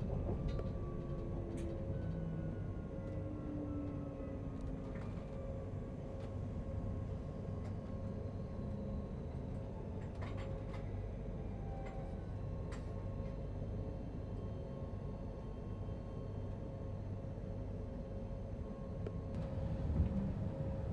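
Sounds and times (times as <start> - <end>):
train interior rumble and hum: 0.0 - 20.9.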